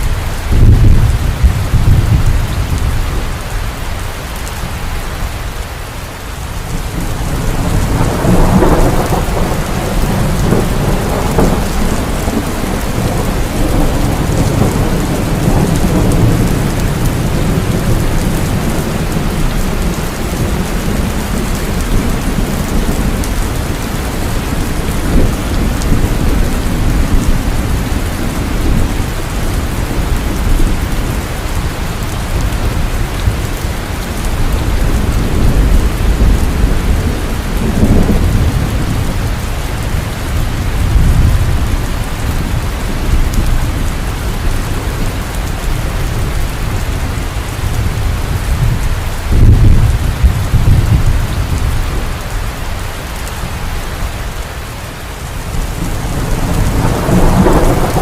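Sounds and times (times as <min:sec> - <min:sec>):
low thunder rumbling: 0:00.0 - 0:03.8, 0:06.4 - 0:54.4, 0:55.2 - 0:58.0
heavy rain hissing: 0:00.0 - 0:58.0.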